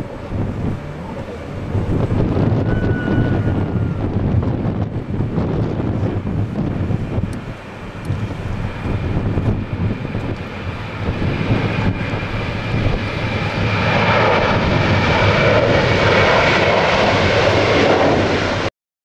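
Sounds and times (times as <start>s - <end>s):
jet engines rumbling with fan whine: 0.0s - 18.7s.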